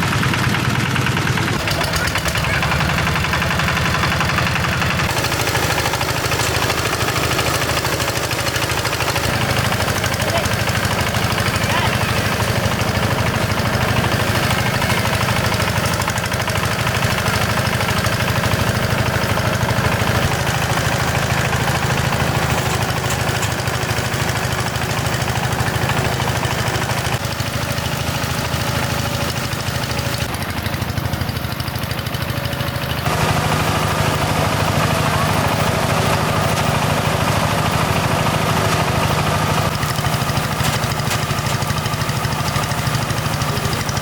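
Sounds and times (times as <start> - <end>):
small engine droning: 0.0 - 44.0.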